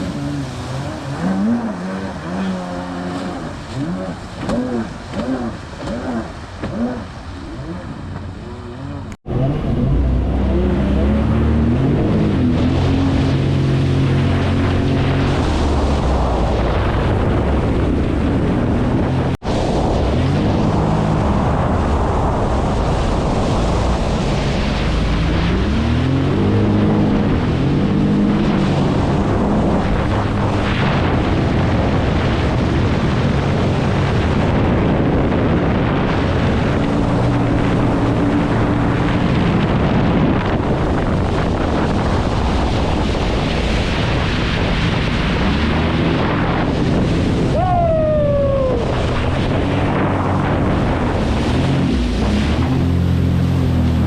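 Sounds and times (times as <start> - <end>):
jet ski engine running: 0.0 - 54.0
water rushing: 0.0 - 54.0
wind on microphone: 0.0 - 54.0.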